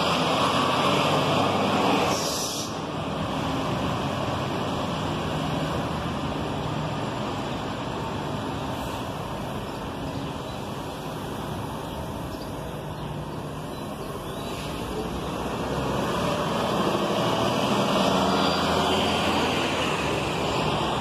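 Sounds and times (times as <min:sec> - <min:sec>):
approaching bus engine: 0:00.0 - 0:21.0
bus engine driving off: 0:00.0 - 0:21.0
street traffic noise: 0:00.0 - 0:21.0.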